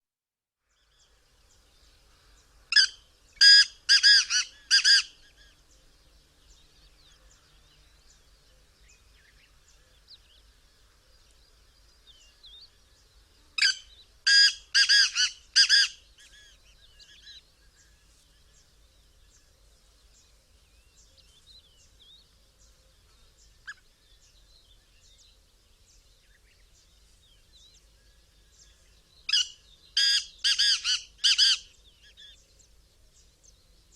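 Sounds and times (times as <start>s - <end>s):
small birds twittering: 0.7s - 33.9s
francolin calling: 2.0s - 12.8s, 13.6s - 32.5s.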